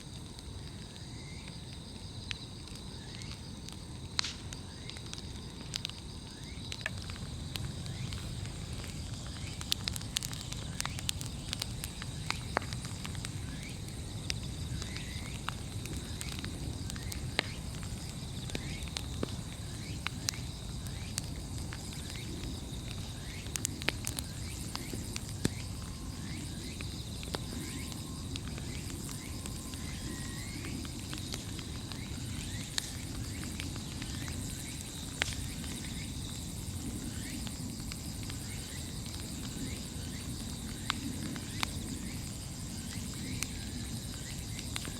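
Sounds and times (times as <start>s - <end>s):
bonfire crackling and popping: 0.0s - 44.9s
fire low rumble: 0.0s - 44.9s.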